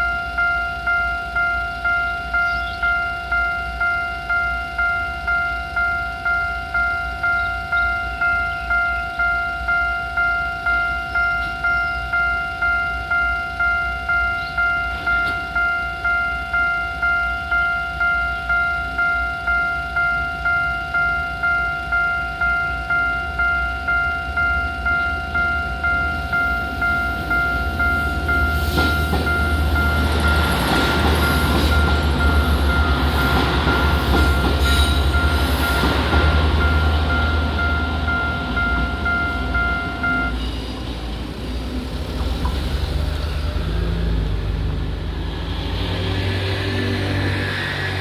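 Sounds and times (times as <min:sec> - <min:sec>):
level crossing alarm ringing: 0:00.0 - 0:40.5
train rumbling past: 0:00.0 - 0:48.0.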